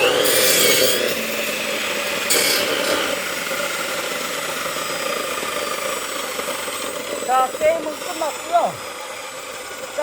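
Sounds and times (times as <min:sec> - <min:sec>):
electric chainsaw cutting log: 0:00.0 - 0:10.0.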